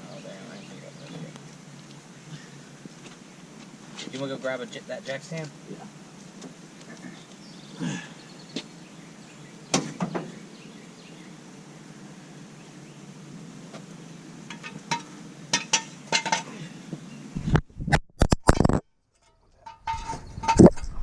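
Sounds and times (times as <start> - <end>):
steady outdoor hiss: 0.0 - 17.6.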